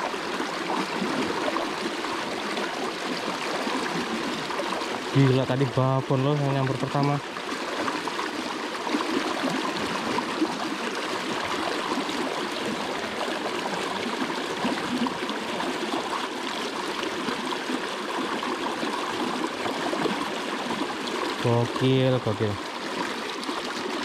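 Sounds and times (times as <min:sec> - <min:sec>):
river water gurgling: 0:00.0 - 0:24.0.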